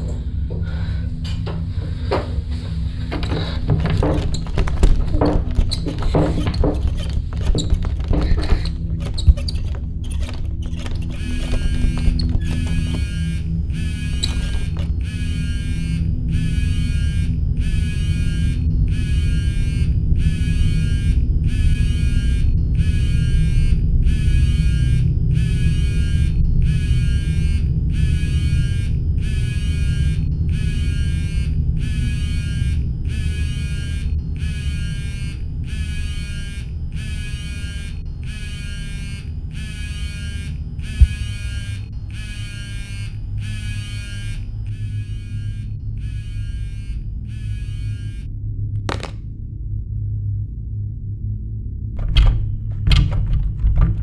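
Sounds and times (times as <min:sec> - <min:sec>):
steady low drone: 0:00.0 - 0:54.0
buzzing pulsing tone: 0:02.6 - 0:52.3.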